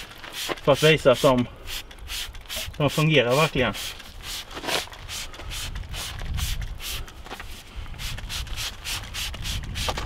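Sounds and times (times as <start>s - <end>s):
spray bottle spritzing: 0.0s - 10.0s.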